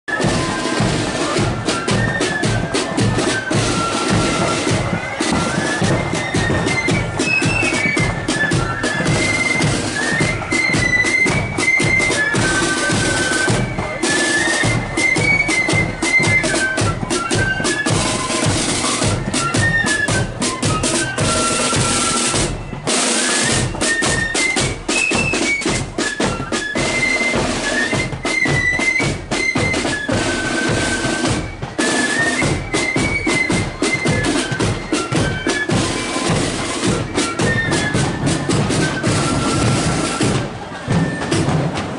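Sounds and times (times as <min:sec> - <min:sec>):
flutes playing a tune: 0:00.1 - 0:41.9
side drum rolls: 0:00.1 - 0:41.9.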